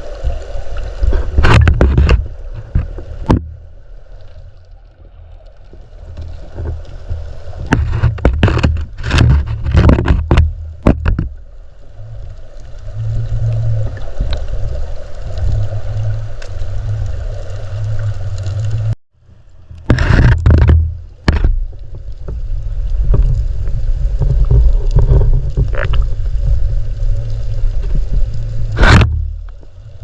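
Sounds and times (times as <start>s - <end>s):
muffled underwater river rumble: 0.0s - 30.0s.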